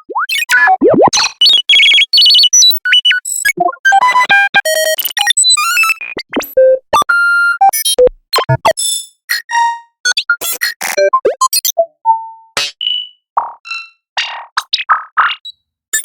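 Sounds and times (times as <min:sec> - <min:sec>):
electronic beeps and synth effects: 0:00.1 - 0:09.4, 0:10.1 - 0:11.9, 0:12.8 - 0:16.0.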